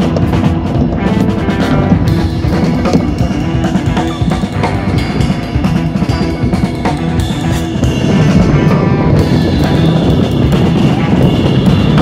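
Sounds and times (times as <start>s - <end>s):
drum beat: 0.0s - 12.0s
guitar: 0.0s - 12.0s
rock music: 0.0s - 12.0s.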